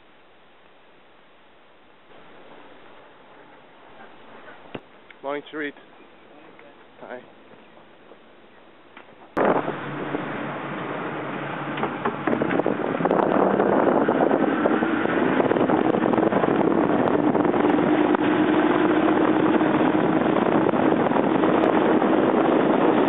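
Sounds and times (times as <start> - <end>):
rushing wind and water: 1.4 - 23.0
motorboat engine running: 2.1 - 23.0.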